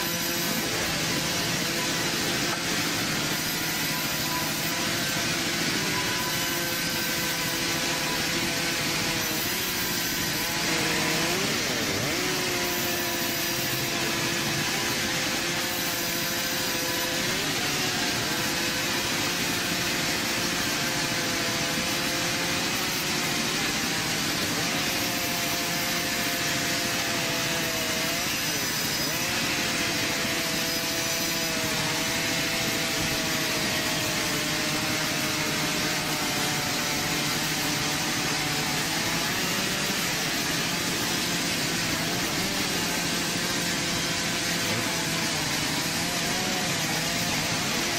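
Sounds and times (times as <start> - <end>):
band saw cutting wood: 0.0 - 47.9.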